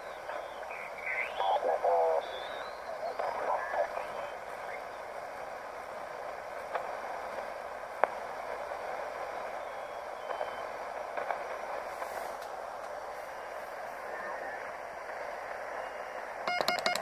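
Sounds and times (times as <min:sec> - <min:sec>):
radio receiver hiss: 0:00.0 - 0:17.0
static clicks and crackles: 0:00.0 - 0:17.0.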